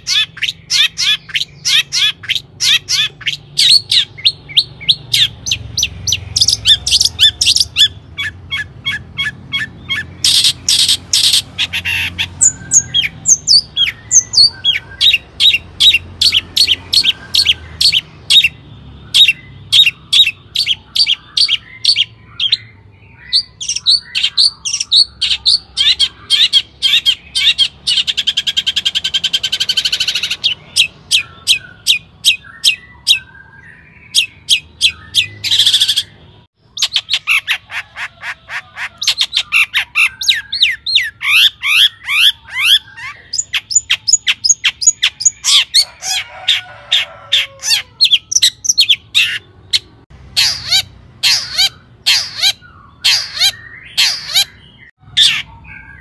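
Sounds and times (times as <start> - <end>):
shrike singing: 0.0 - 56.0.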